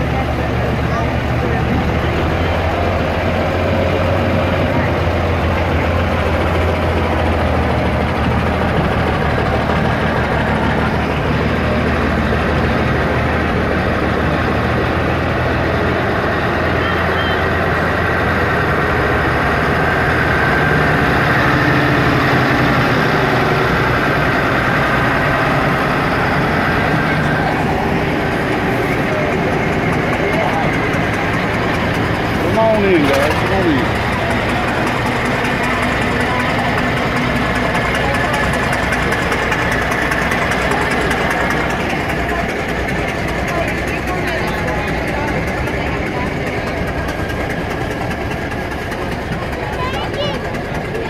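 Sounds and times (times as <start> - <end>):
truck diesel engines running: 0.0 - 51.0.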